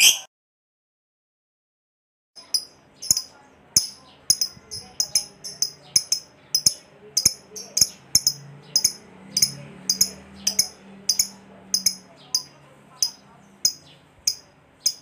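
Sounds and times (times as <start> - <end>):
lovebird chirping: 0.0 - 0.3, 2.4 - 15.0.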